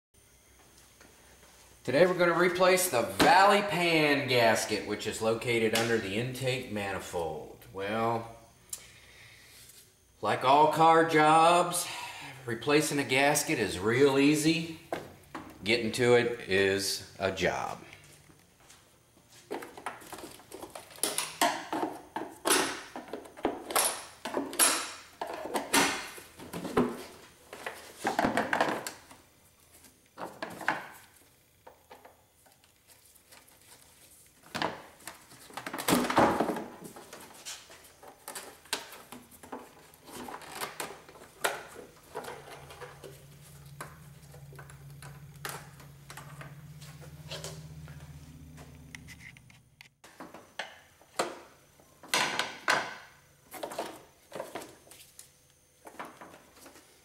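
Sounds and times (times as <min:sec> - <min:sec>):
steady low hum: 0:00.2 - 0:57.0.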